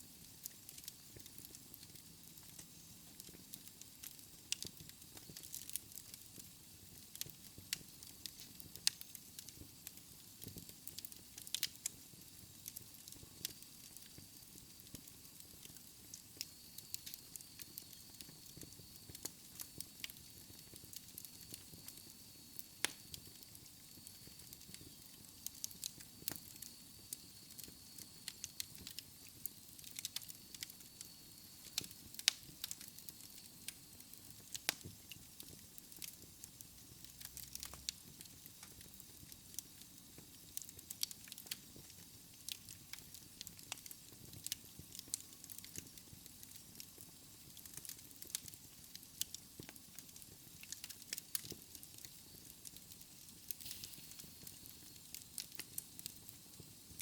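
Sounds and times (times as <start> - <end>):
flames hissing: 0.0 - 57.0
wood fire crackling: 0.0 - 57.0.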